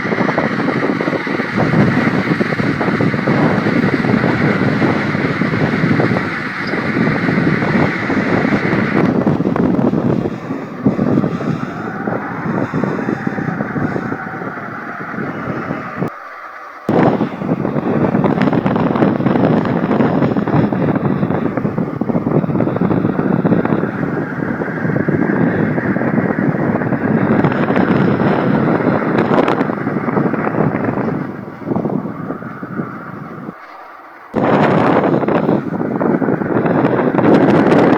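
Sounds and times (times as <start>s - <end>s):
strong gusting wind: 0.0s - 37.9s.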